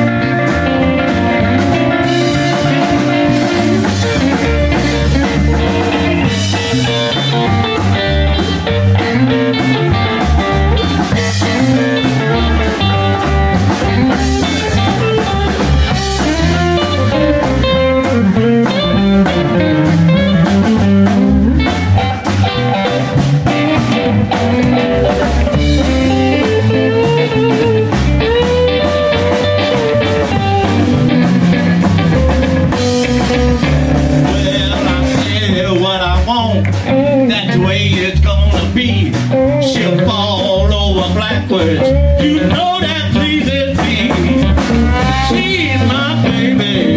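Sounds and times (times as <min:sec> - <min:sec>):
blues band playing: 0:00.0 - 0:46.9
electric guitar lead: 0:00.0 - 0:46.9.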